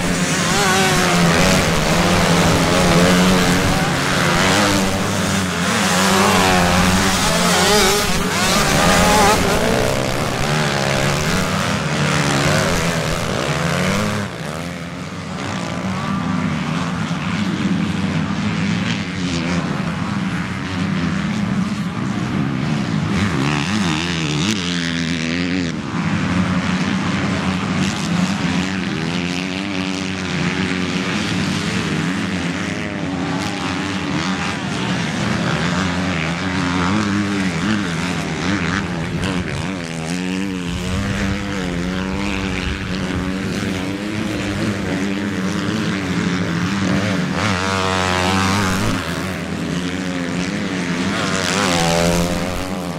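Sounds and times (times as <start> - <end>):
motocross engines revving: 0.0 - 22.0, 26.2 - 52.9
drone of distant bikes: 0.0 - 52.9.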